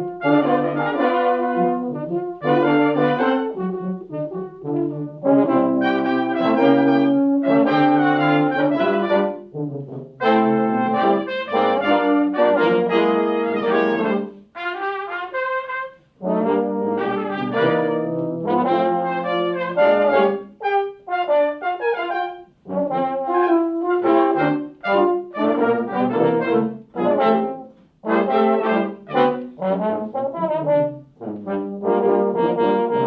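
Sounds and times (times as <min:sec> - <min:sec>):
brass ensemble playing held chords: 0:00.0 - 0:33.0.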